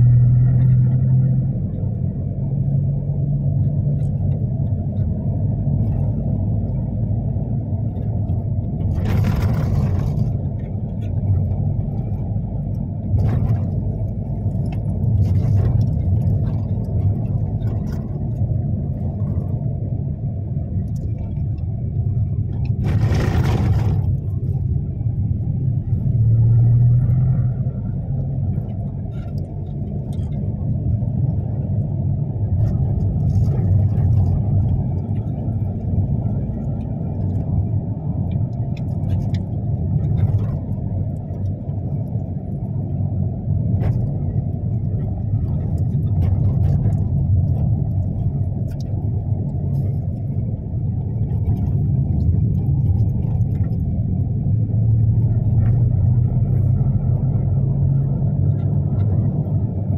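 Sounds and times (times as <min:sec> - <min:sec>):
tyres on road: 0:00.0 - 0:59.9
vehicle engine rumble: 0:00.0 - 0:59.9.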